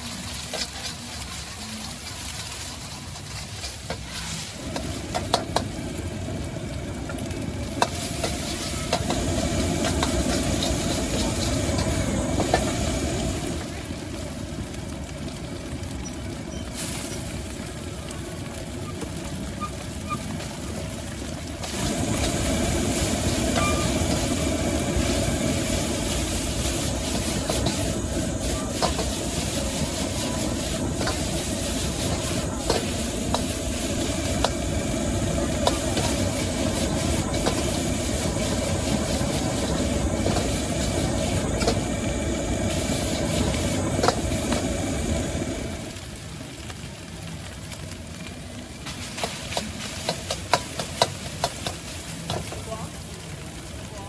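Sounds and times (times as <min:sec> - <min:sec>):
food sizzling in a wok: 0:00.0 - 0:54.0
gas burner rumble: 0:00.0 - 0:54.0.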